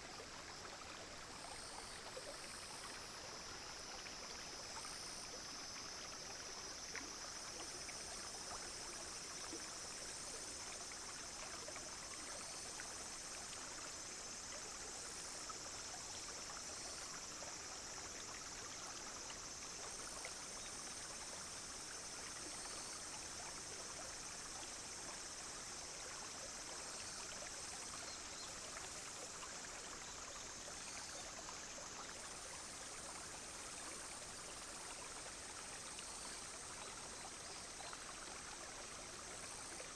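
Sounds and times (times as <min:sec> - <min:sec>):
cicadas and insects droning: 0:00.0 - 0:39.9
stream trickling over stones: 0:00.0 - 0:39.9.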